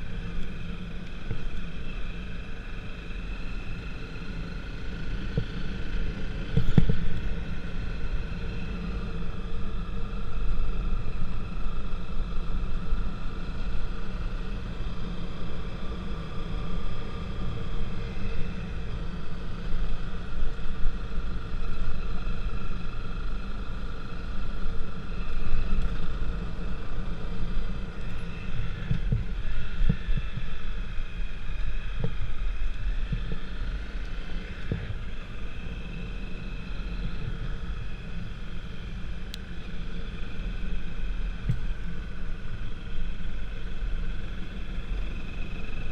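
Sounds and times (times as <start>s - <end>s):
vehicle whine: 0.0s - 45.9s
wind rumble on microphone: 0.0s - 45.9s.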